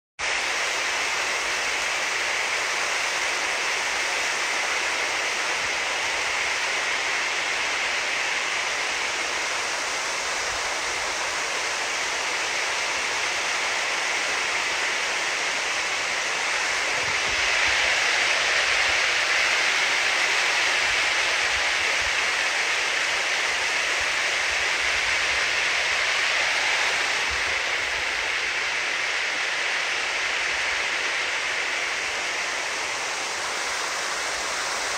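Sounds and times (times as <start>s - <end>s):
water rushing over rocks: 0.2s - 34.9s.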